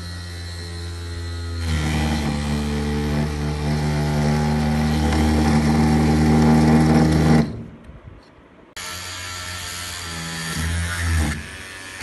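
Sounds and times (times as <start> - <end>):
drill whining into wood: 0.0 - 7.7, 8.8 - 12.0.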